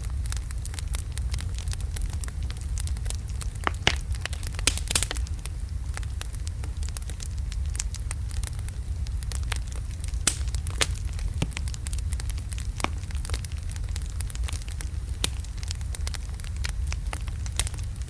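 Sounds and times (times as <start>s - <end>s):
fire crackles and pops: 0.0s - 18.0s
fire rumbling in fireplace: 0.0s - 18.0s.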